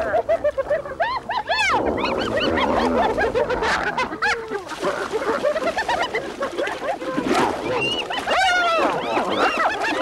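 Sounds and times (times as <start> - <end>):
hyenas giggling and yelping: 0.0 - 10.0.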